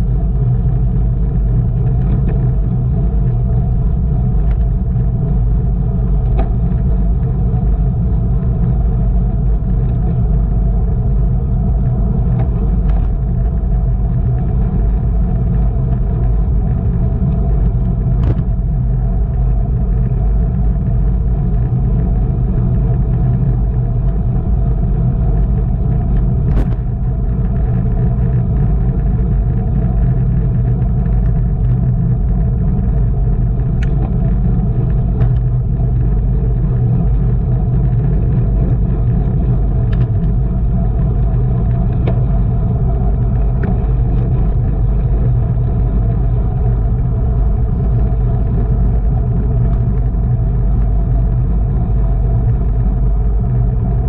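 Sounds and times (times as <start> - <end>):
road noise: 0.0 - 54.0
wind rumble: 0.0 - 54.0.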